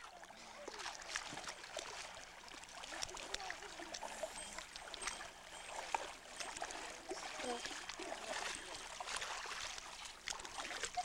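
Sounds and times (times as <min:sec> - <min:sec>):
water splashing around wading legs: 0:00.0 - 0:11.0.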